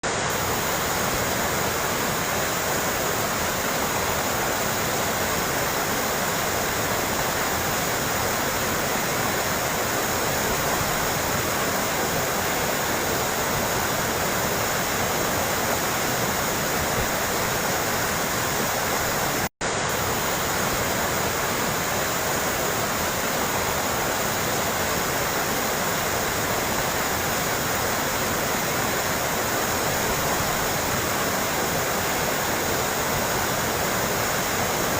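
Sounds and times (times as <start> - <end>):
babbling rushing water: 0.1 - 34.9.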